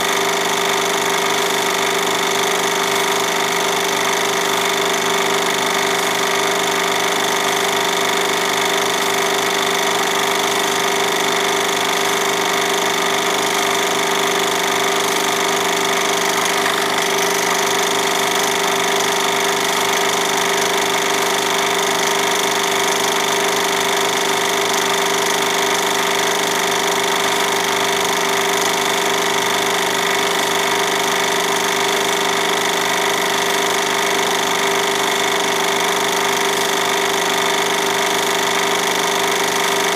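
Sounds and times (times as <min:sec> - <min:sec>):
film projector whirring and rattling: 0:00.0 - 0:39.9.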